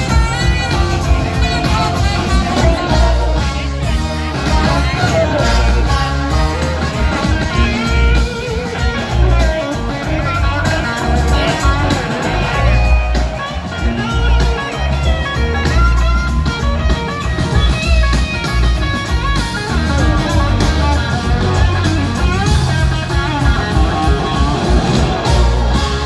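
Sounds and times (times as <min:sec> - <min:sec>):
electric guitar lead: 0:00.0 - 0:26.0
live blues-rock band: 0:00.0 - 0:26.0.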